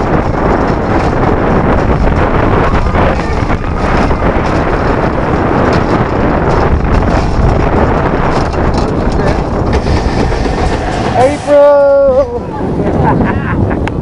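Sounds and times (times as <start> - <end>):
roller coaster train rumbling: 0.0 - 14.0
wind rushing over microphone: 0.0 - 14.0.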